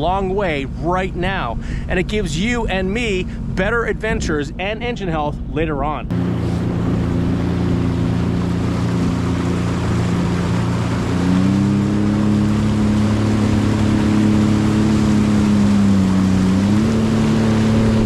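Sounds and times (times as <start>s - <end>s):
personal watercraft engine running: 0.0s - 18.0s
water noise: 0.0s - 18.0s
wind noise: 3.5s - 18.0s.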